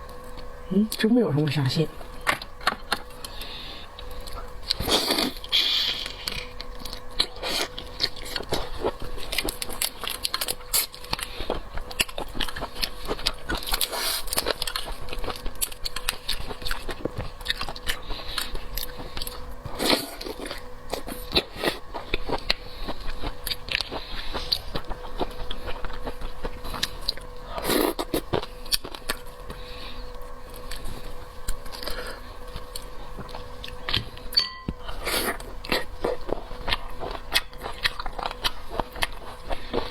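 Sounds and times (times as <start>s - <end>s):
faint steady hum: 0.0s - 39.9s
chewing seafood: 1.9s - 39.9s.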